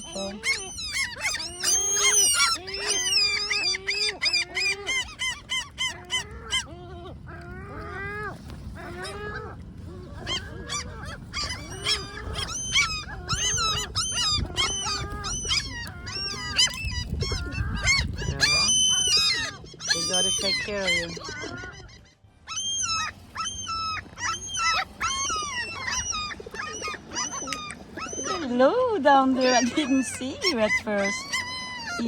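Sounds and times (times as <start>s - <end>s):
gulls yelping calls: 0.0s - 32.0s.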